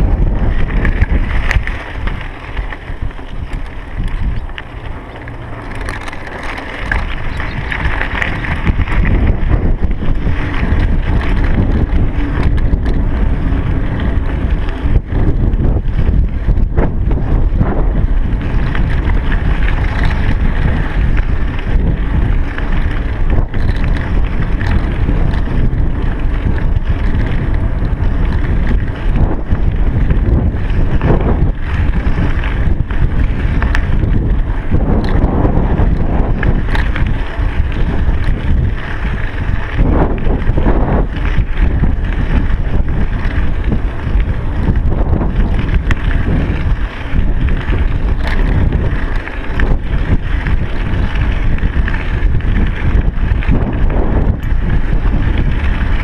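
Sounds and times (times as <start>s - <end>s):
bicycle knocks and rattles: 0.0s - 56.0s
wind rushing over microphone: 0.0s - 56.0s.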